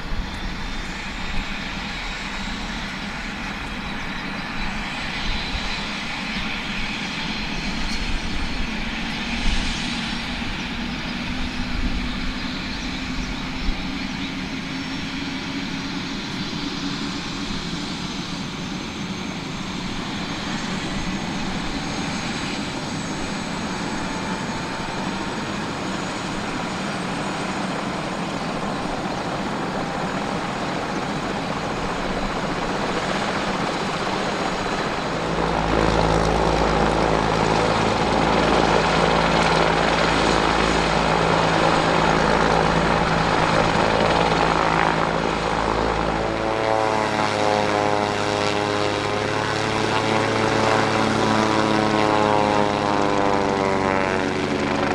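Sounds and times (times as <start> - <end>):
helicopter turbine whine: 0.0 - 54.9.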